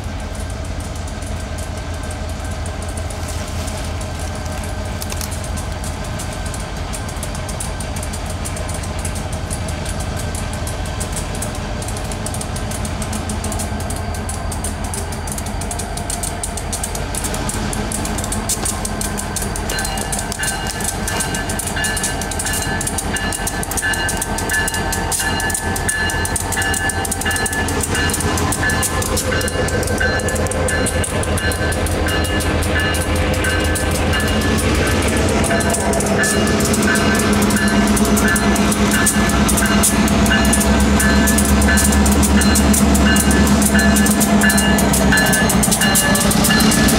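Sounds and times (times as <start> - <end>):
diesel locomotive engine rumble: 0.0 - 46.9.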